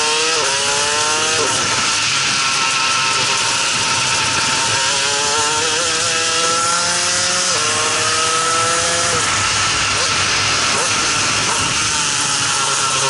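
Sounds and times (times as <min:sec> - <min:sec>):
two-stroke kart engine revving: 0:00.0 - 0:13.0
wind noise: 0:01.0 - 0:13.0.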